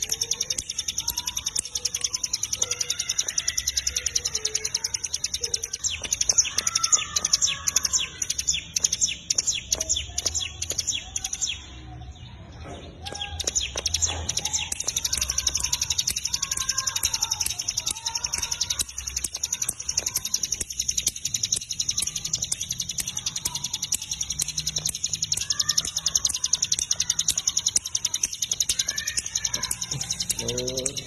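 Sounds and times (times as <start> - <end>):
songbird chattering song: 0.0 - 31.0.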